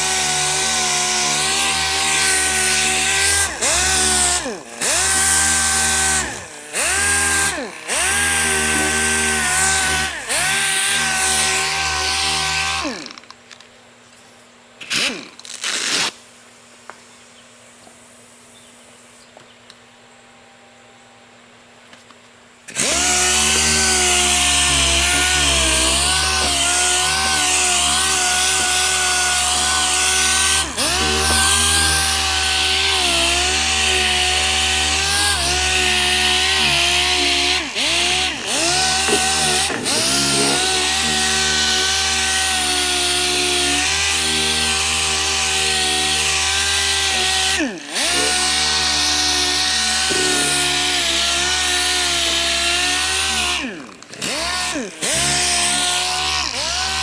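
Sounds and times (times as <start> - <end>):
orbital sander whining: 0.0 - 13.1, 22.7 - 57.0.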